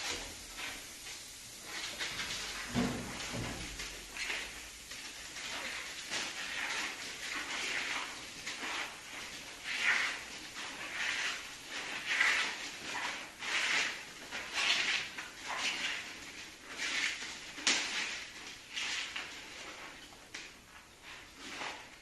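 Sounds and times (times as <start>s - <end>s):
scraping strokes: 1.6s - 20.0s, 20.7s - 22.0s.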